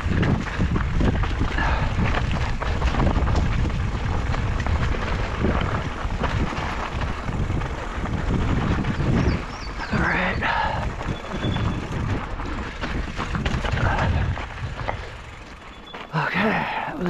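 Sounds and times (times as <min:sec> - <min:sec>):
wind rumbling on microphone: 0:00.0 - 0:16.8
bike rolling over rocky trail: 0:00.0 - 0:16.9.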